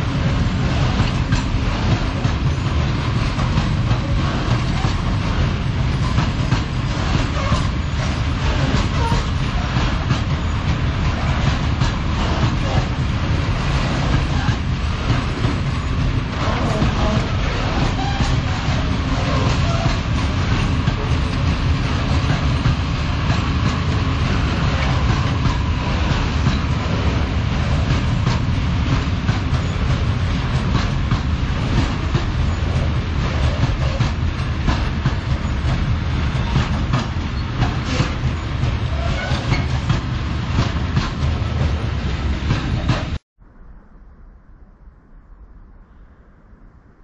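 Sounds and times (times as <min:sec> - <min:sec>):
wheels clattering over rail joints: 0:00.0 - 0:43.2
freight train wagons rumbling: 0:00.0 - 0:43.6.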